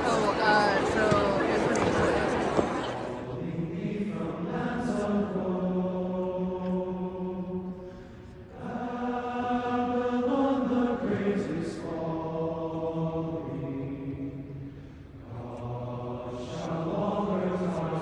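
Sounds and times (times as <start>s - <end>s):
voices singing together: 0.0s - 18.0s.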